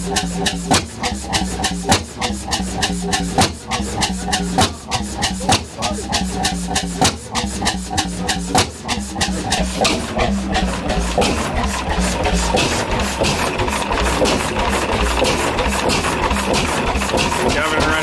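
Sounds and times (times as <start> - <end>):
low engine hum: 0.0 - 18.0
stationary engine clattering: 0.0 - 18.0.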